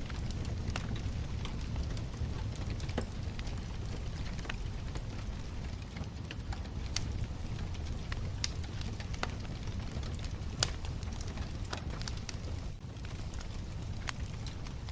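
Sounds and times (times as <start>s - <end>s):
flames rumbling: 0.0s - 14.9s
wood crackling and popping: 0.0s - 14.9s.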